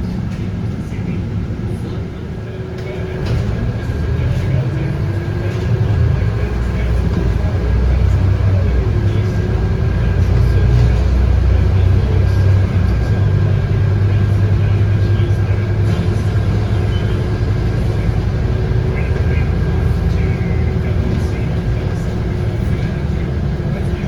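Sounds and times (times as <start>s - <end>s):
bus diesel engine droning: 0.0s - 24.0s.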